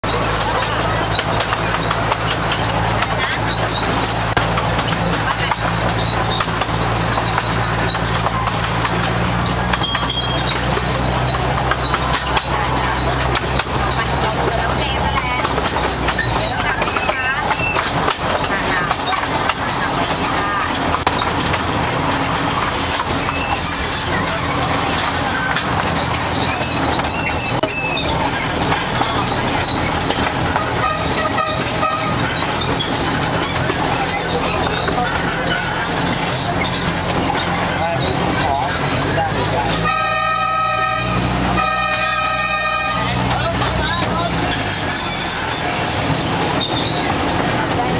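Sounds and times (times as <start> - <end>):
tram drive humming: 0.0 - 47.9
wheels clicking and knocking: 0.0 - 47.9
short high squeaks: 0.1 - 38.8, 44.2 - 47.6.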